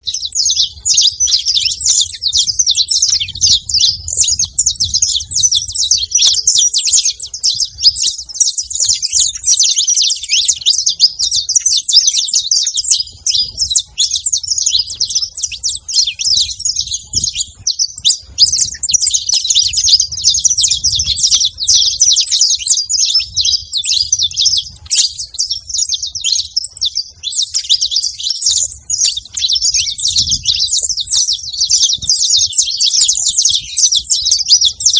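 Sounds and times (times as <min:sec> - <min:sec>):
flock of finches chirping: 0:00.0 - 0:34.9.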